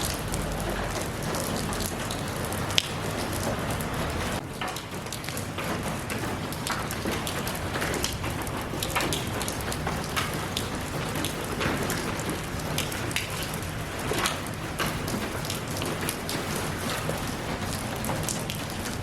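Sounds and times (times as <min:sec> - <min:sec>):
rain drops on hard surface: 0:00.0 - 0:19.0.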